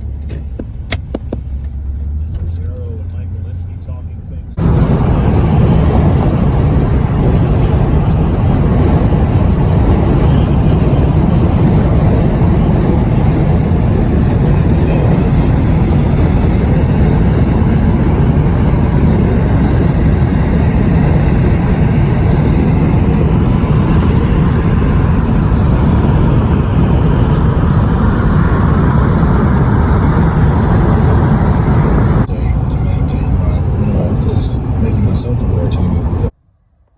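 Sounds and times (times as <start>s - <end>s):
moving vehicle rumble: 0.0s - 36.4s.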